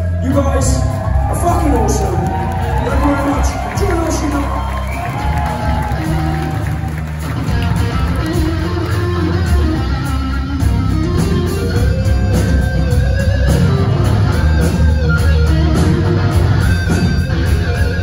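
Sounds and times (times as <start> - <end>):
bass guitar: 0.0 - 18.0
drums: 0.0 - 18.0.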